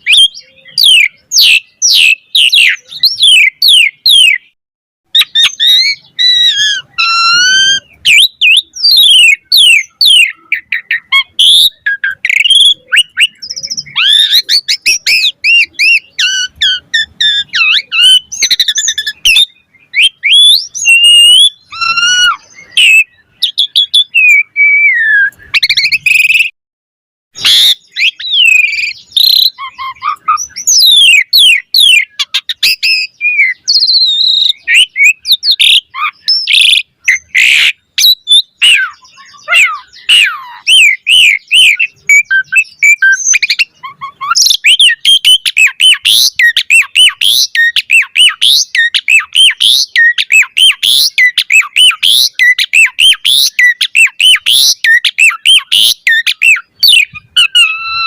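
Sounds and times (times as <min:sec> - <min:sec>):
starling singing: 0:00.0 - 0:26.5, 0:27.4 - 0:58.0.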